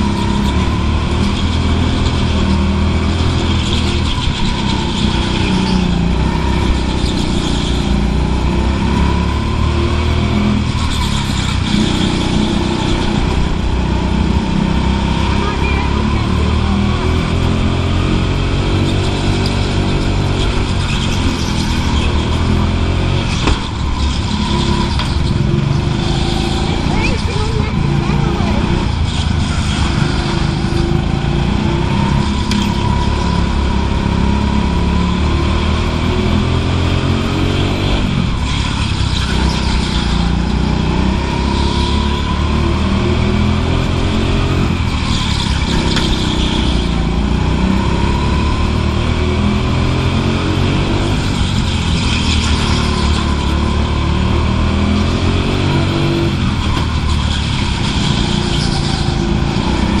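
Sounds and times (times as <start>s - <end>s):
go-kart engine revving: 0.0s - 60.0s.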